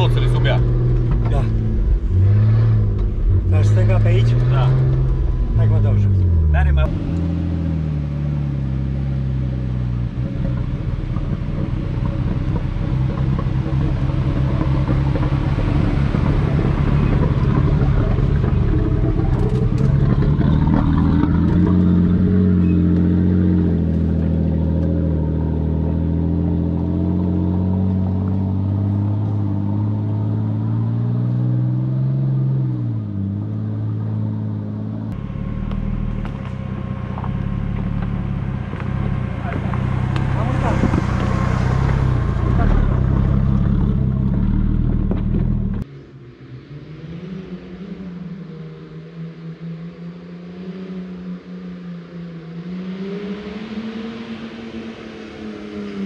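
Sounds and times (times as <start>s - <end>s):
turbo engine under load: 0.0s - 45.9s.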